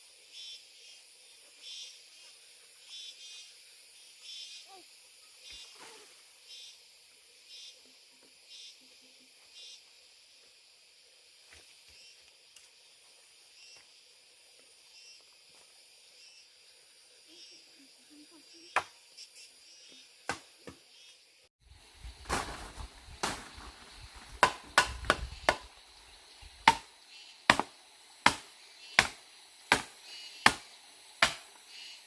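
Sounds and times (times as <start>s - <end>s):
high insect hiss: 0.0s - 32.0s
insects chirping: 0.0s - 32.0s.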